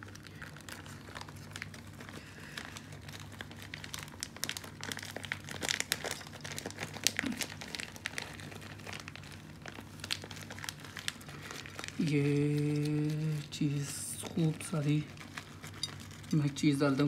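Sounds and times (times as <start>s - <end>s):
plastic bag crinkling: 0.0s - 17.0s
steady low hum: 0.0s - 17.0s.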